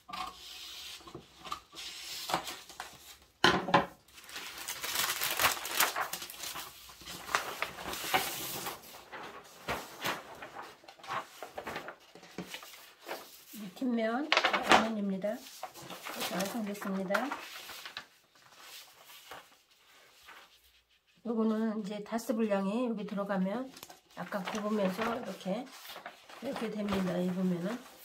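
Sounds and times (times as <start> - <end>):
paper rustling and crackling: 0.1 - 3.4, 4.0 - 21.2, 23.6 - 28.0.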